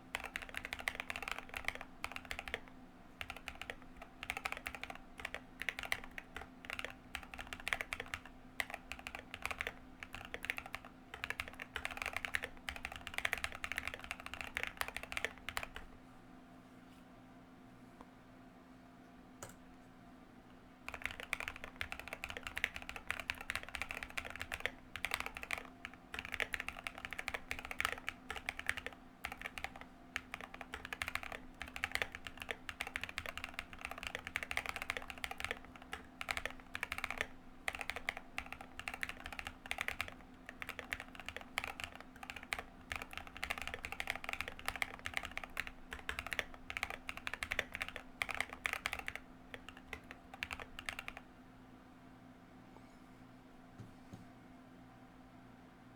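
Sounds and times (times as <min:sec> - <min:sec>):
mechanical keyboard typing: 0:00.1 - 0:15.9, 0:20.9 - 0:51.2.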